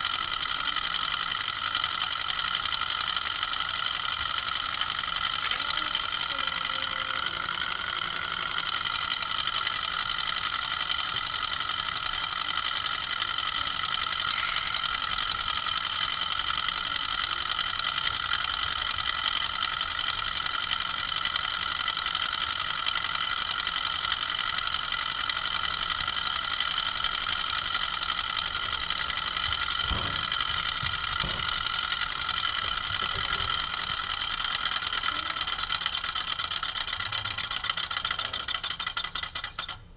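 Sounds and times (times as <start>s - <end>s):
small engine mechanical rattle: 0.0s - 39.9s
steady high whir: 0.0s - 39.9s.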